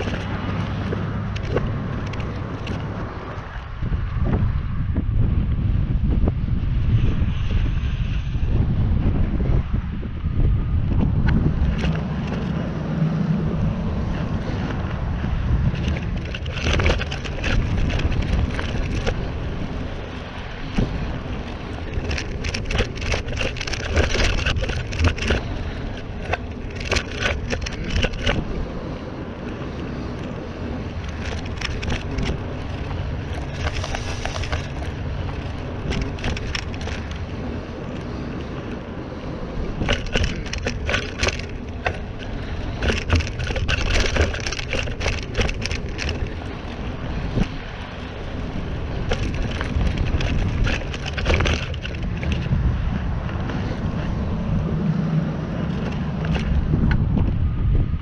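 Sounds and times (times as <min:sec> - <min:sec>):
bike rattling and clicking: 0:00.0 - 0:58.0
wind rumble on microphone: 0:00.0 - 0:58.0.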